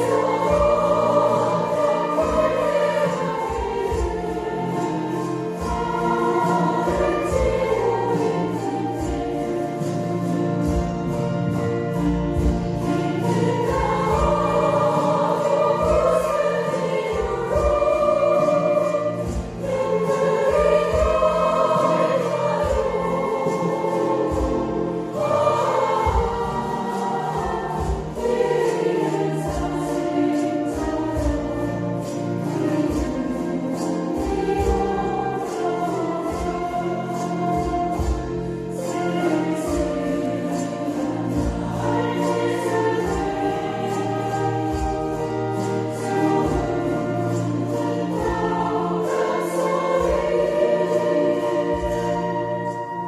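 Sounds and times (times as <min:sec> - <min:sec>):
chromaharp accompaniment: 0:00.0 - 0:53.0
group singing in unison: 0:00.0 - 0:53.0.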